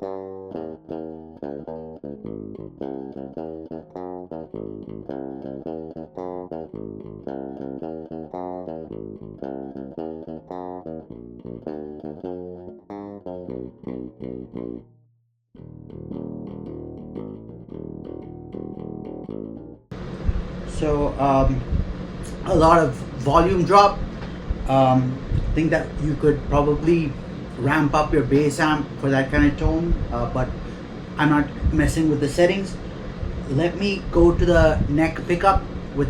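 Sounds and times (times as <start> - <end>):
electric bass plucked notes: 0.0 - 36.0.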